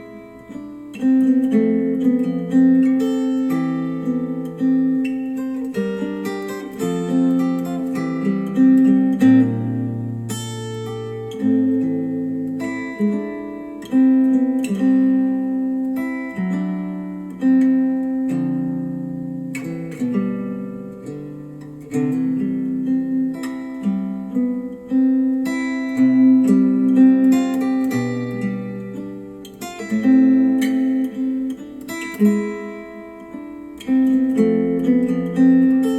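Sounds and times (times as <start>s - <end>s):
acoustic guitar music: 0.0s - 35.9s.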